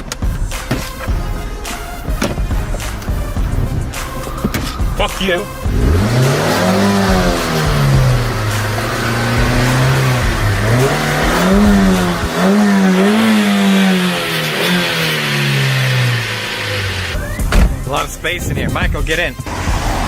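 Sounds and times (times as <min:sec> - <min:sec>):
car engine revving: 0:00.0 - 0:20.0
steady rushing noise: 0:00.0 - 0:20.0.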